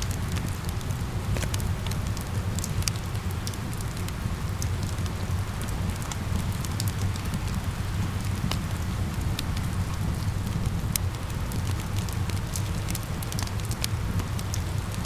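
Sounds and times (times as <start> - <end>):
steady rain: 0.0 - 15.0
wood fire crackling and popping: 0.0 - 15.0.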